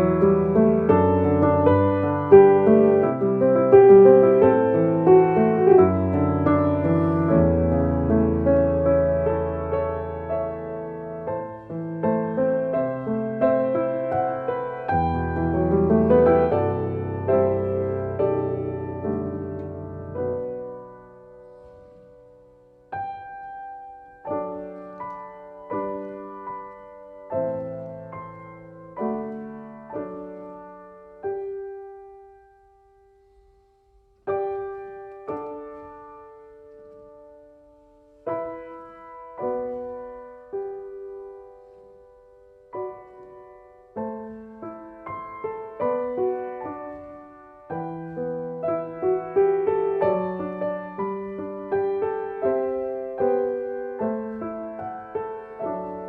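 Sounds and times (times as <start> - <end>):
slow gentle solo piano: 0.0 - 56.0.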